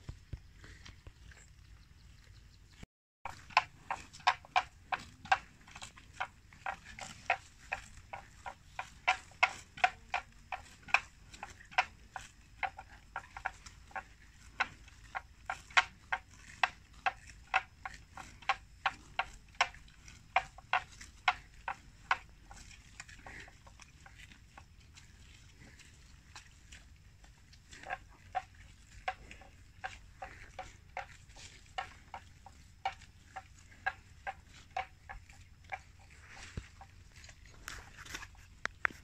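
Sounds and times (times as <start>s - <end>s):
sharp chewing clicks: 3.3s - 39.0s.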